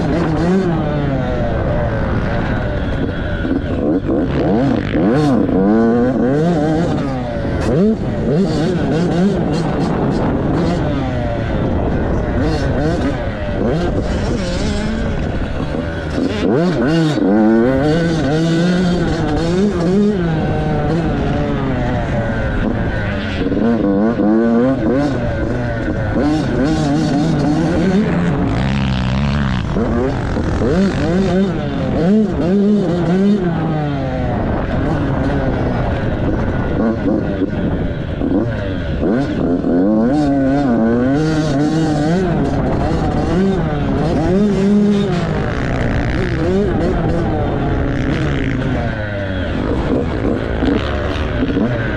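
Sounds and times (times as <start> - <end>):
dirt bike engine running hard: 0.0 - 51.9.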